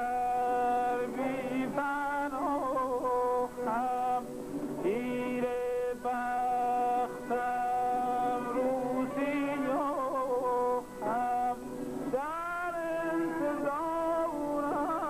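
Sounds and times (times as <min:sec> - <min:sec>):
man singing long notes: 0:00.0 - 0:15.0.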